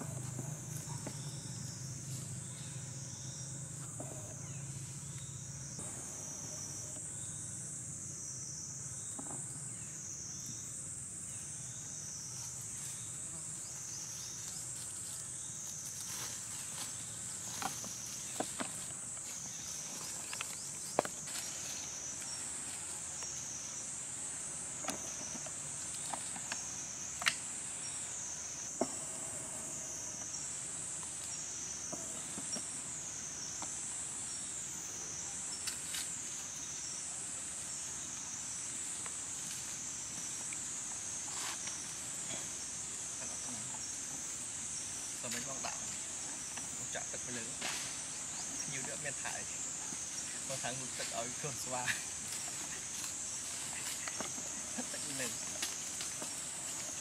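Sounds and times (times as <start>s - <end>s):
shrill chorus of insects: 0.0s - 57.0s.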